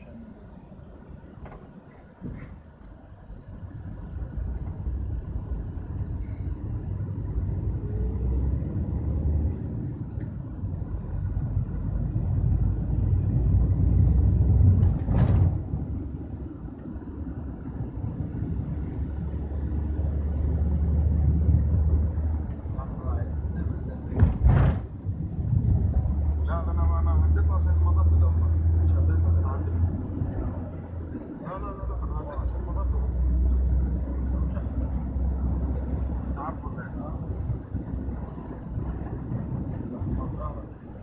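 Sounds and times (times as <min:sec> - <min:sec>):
car driving rumble inside cabin: 0:00.0 - 0:41.0.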